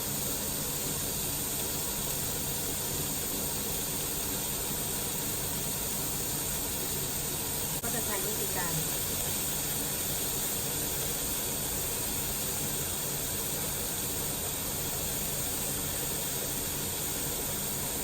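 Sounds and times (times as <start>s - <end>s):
patties sizzling in a frying pan: 0.0s - 18.0s.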